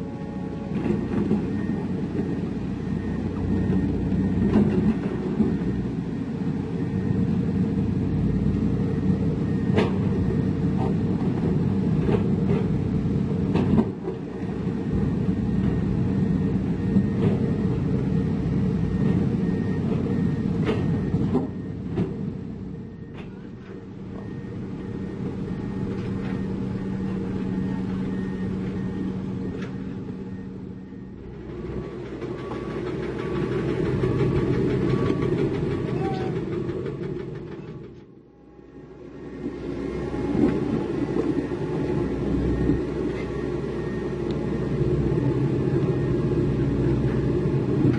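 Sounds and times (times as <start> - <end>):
heavy diesel machinery running: 0.0 - 47.9.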